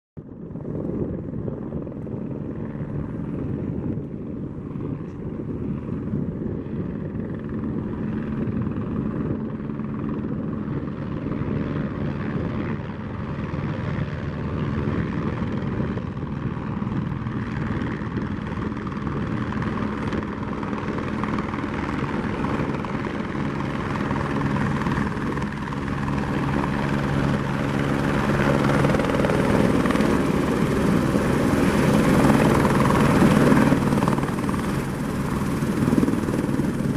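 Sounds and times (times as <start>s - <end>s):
helicopter rotor and turbine: 0.2s - 36.9s.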